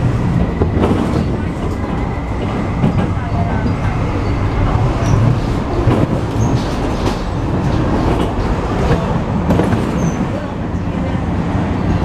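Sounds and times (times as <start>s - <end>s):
low rumble of train wheels: 0.0s - 12.0s.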